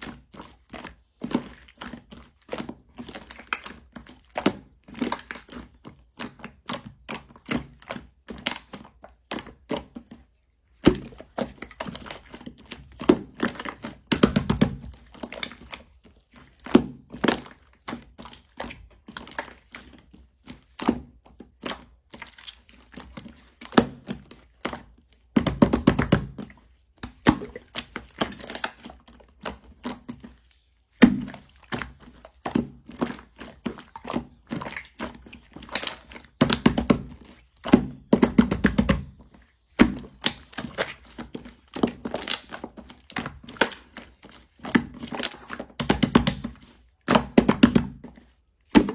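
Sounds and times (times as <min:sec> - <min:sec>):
crunchy clay clicking and cracking: 0:00.0 - 0:48.9.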